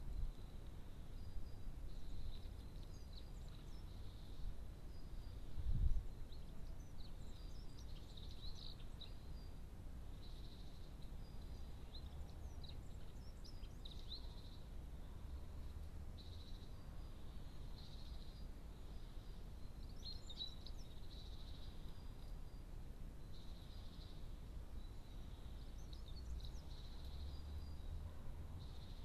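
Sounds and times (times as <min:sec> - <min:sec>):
low outdoor rumble: 0:00.0 - 0:29.0
birds chirping: 0:01.0 - 0:29.0.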